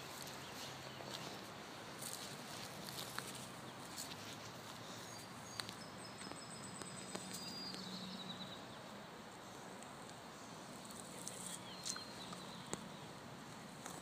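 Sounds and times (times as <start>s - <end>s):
soft steady hiss: 0.0s - 14.0s.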